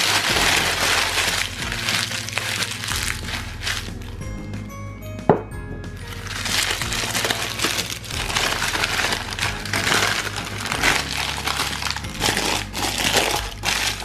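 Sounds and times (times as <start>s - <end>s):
baking paper crinkling: 0.0s - 4.2s, 6.1s - 14.0s
soft background music: 0.0s - 14.0s.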